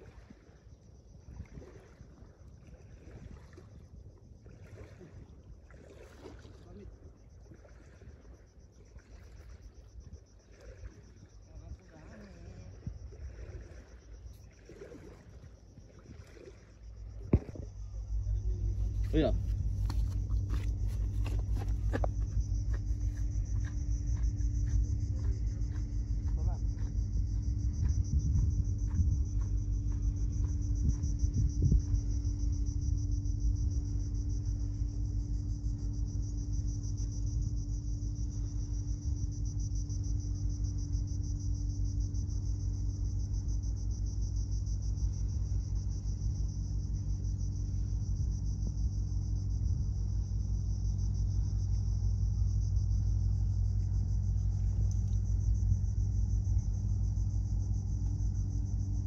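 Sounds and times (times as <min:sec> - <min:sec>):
high insect trill: 0:00.0 - 0:59.0
low engine-like hum: 0:00.0 - 0:59.0.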